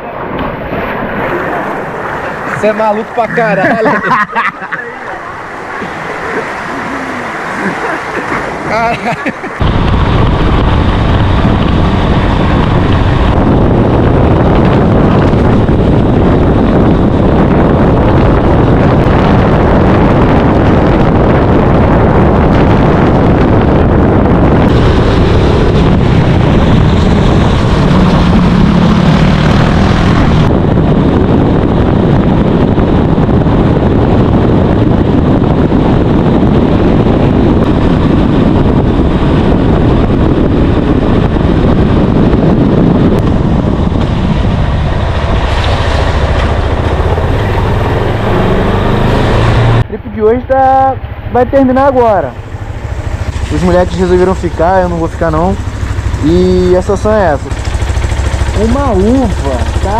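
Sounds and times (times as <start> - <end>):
moving vehicle rumble: 0.0 - 59.9
wind buffeting microphone: 0.0 - 59.9.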